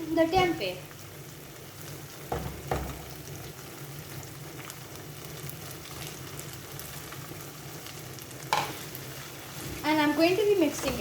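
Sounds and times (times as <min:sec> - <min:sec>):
gravy sizzling in a pan: 0:00.0 - 0:11.0.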